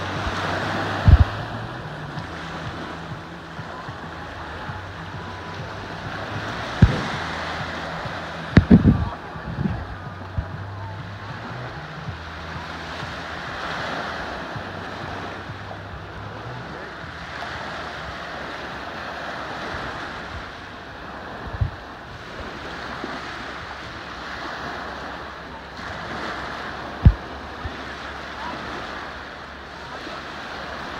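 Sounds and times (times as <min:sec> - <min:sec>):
small waves washing up beach: 0:00.0 - 0:30.9
wind on microphone: 0:00.0 - 0:30.9.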